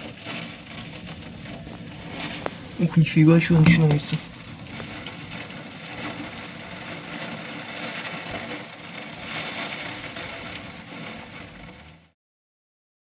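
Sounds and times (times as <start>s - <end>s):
low thunder rumble: 0.0s - 11.9s
rain and wind rushing: 0.0s - 12.0s
fine crackling: 0.0s - 12.1s.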